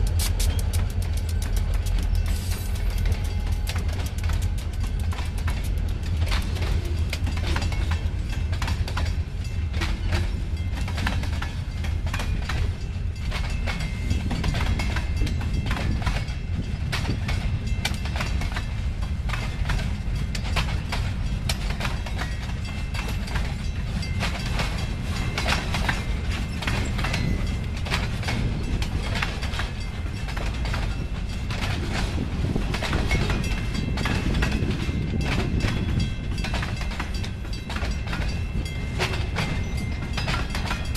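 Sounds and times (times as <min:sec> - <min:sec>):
train wheels rumbling on rail: 0:00.0 - 0:40.9
wheels clicking over rail joints: 0:00.0 - 0:40.9.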